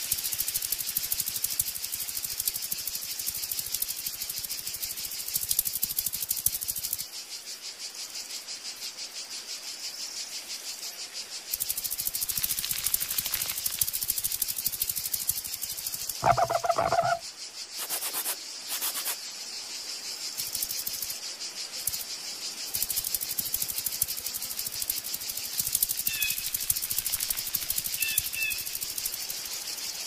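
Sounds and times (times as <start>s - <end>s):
insect chirring: 0.0s - 30.0s.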